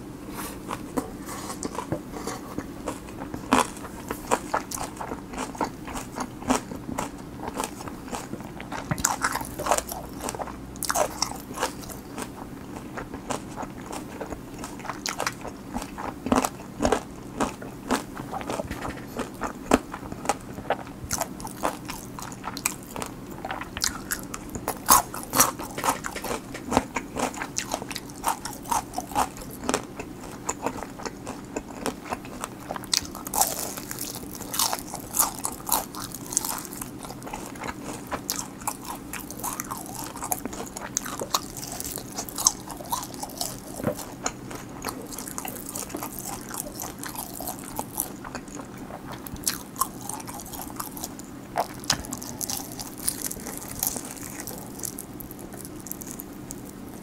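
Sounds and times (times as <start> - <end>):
person chewing food: 0.3 - 57.0.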